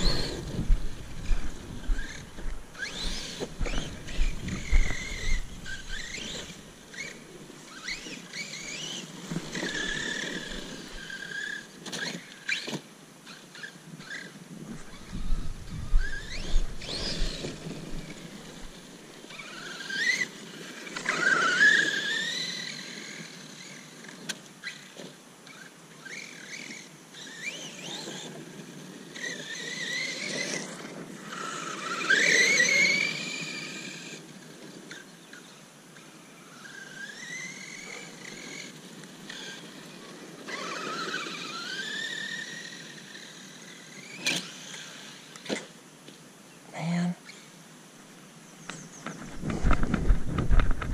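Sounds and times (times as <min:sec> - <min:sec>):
rc truck motor whining: 0:00.0 - 0:45.8.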